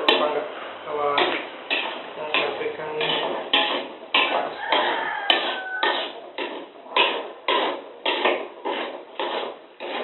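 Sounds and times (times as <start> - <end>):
metal spatula scraping a wok: 0.0 - 10.0.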